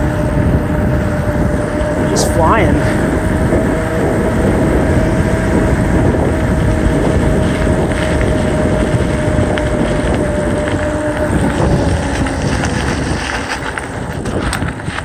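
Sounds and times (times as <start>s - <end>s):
steady hum: 0.0s - 13.1s
wind rushing over microphone: 0.0s - 15.0s.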